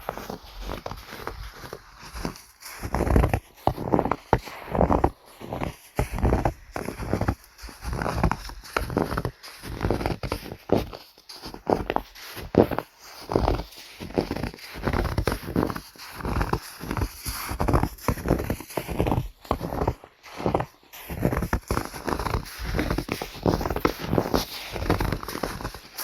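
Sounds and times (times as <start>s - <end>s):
footsteps crunching in snow: 0.0s - 26.0s.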